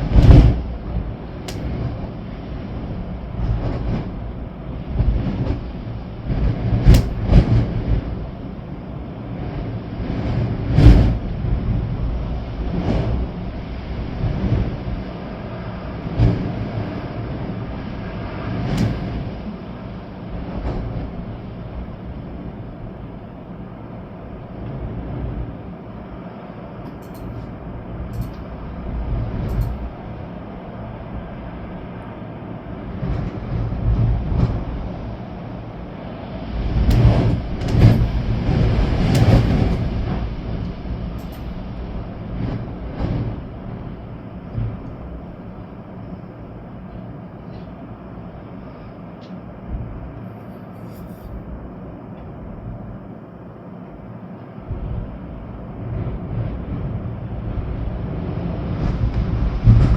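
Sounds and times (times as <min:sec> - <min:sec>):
wind buffeting microphone: 0:00.0 - 0:48.8, 0:54.6 - 0:59.9
rain: 0:00.0 - 0:59.9
storm wind gusting through trees: 0:00.0 - 0:59.9.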